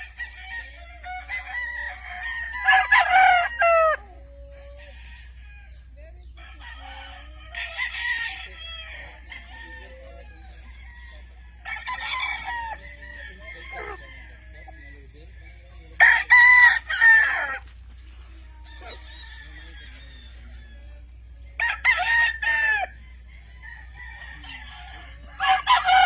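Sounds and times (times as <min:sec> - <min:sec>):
roosters crowing: 0:00.0 - 0:26.0.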